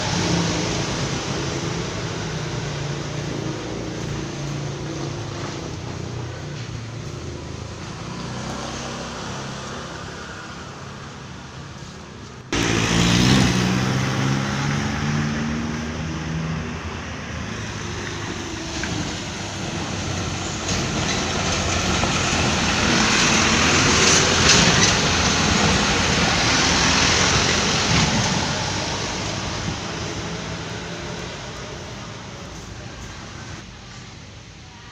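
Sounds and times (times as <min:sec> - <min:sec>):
road noise: 0:00.0 - 0:34.9.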